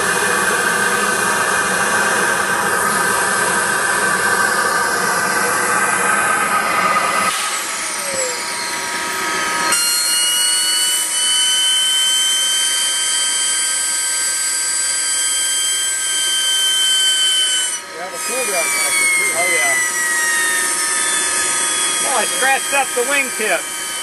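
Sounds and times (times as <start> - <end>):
jet turbine whine: 0.0 - 24.0.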